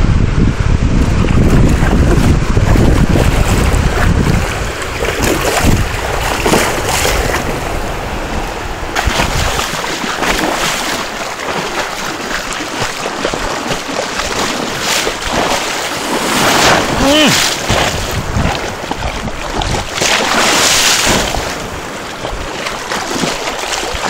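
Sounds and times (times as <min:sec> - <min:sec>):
wind buffeting microphone: 0:00.0 - 0:24.0
surf splashing around wading legs: 0:00.9 - 0:24.0.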